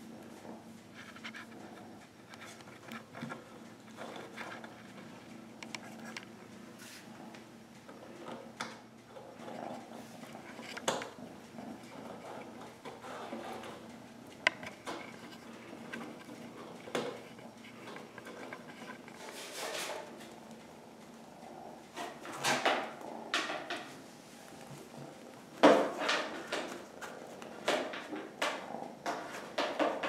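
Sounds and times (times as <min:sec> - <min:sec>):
kitten purring: 0:00.0 - 0:30.0
scratching and handling noises: 0:00.0 - 0:30.0.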